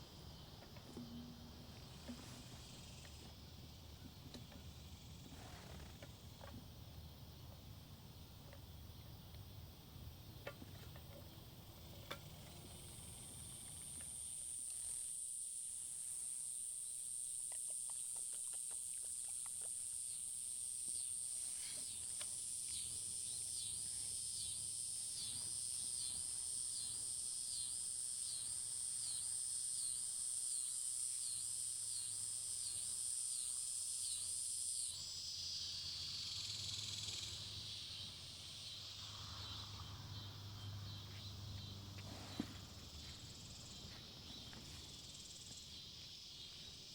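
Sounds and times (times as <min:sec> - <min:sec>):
insect high-pitched buzz: 0:00.0 - 0:46.9
pulsing insect call: 0:00.0 - 0:46.9.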